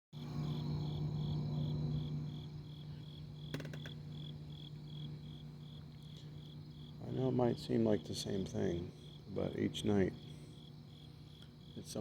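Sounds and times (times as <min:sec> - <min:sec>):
cricket chirping: 0:00.2 - 0:12.0
steady low hum: 0:00.2 - 0:12.0.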